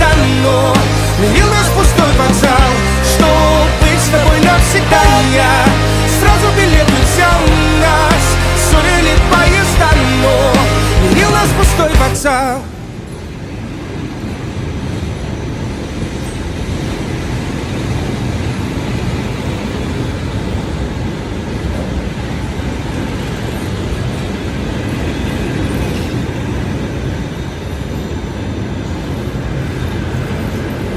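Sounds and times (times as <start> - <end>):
train wheels on rails: 0.0 - 30.9.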